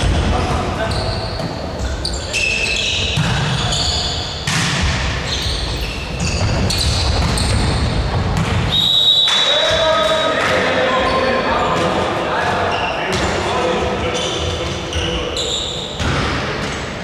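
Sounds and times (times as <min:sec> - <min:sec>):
shoe squeaks on court floor: 0:00.6 - 0:11.9, 0:12.5 - 0:17.0.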